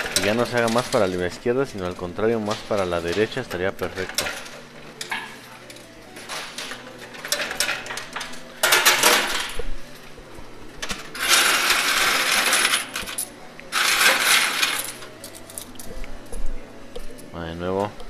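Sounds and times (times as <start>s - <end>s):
coins clinking and clattering: 0.0s - 9.7s, 10.8s - 16.4s.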